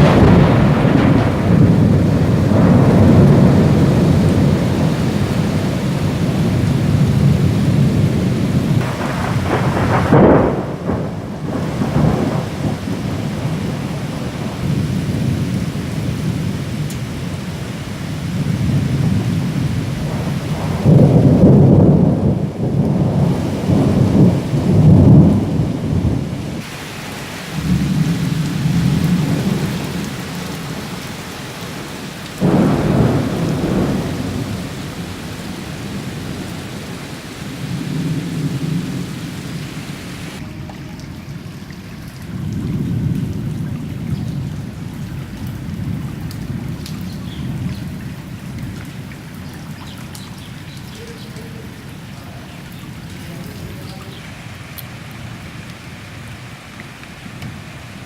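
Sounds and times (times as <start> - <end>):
rolling thunder: 0.0 - 26.7, 27.5 - 31.3, 32.2 - 41.2, 42.0 - 49.6
heavy rain: 0.0 - 58.0.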